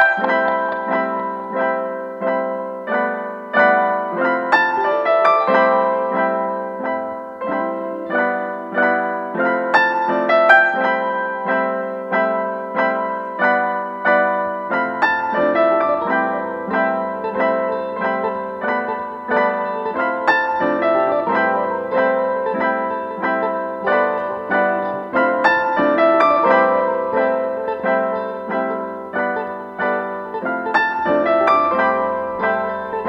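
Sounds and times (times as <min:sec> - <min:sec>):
piano bass note: 0:00.0 - 0:33.0
piano melody: 0:00.0 - 0:33.0.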